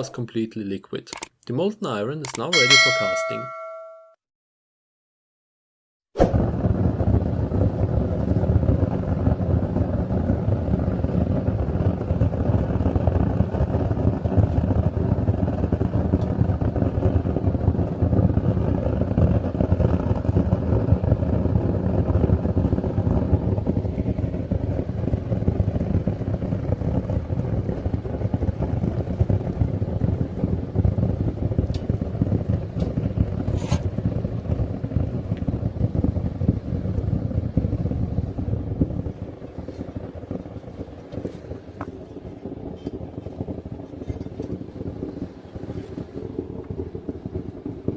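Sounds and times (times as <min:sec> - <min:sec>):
propane burner roaring: 0:06.2 - 0:47.9.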